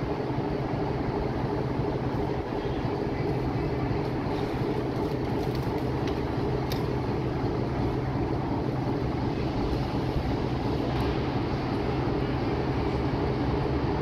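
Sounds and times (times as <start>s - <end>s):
train hum and rumble: 0.0s - 14.0s.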